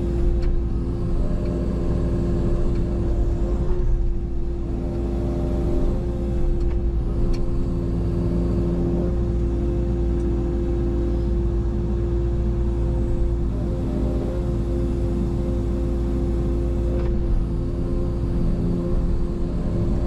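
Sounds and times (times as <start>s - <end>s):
machine engine running steadily: 0.0s - 20.0s.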